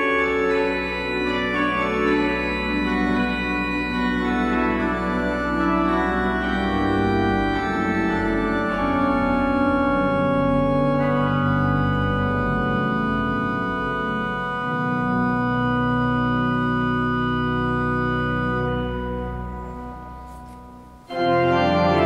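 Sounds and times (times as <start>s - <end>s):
deep organ pedal bass: 0.0s - 22.0s
pipe organ chords: 0.0s - 22.0s.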